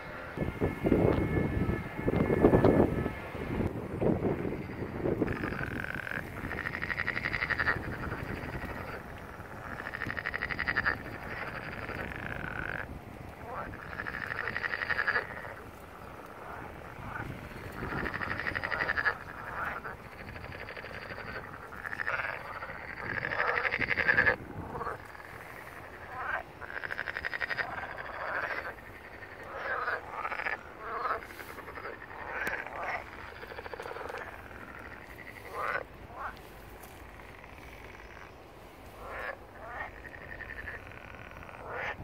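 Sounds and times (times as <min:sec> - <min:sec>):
frogs croaking: 0:00.0 - 0:42.0.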